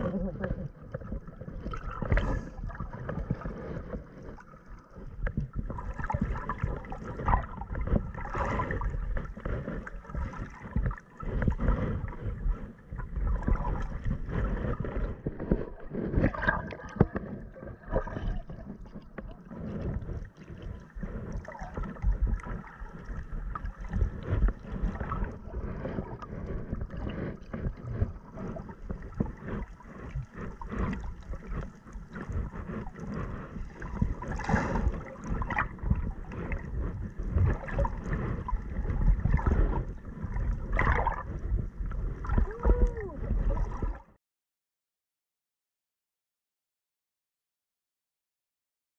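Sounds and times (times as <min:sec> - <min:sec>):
muffled water rushing underwater: 0:00.0 - 0:44.2.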